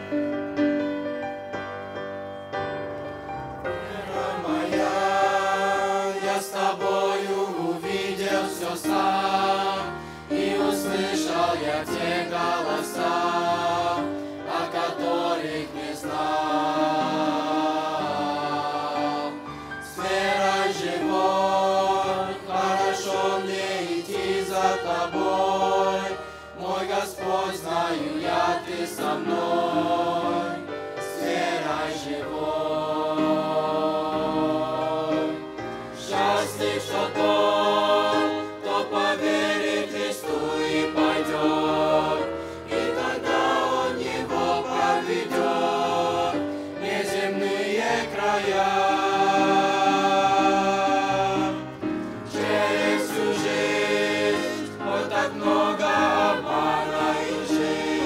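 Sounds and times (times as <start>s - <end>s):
youth choir singing a hymn: 3.7s - 58.0s.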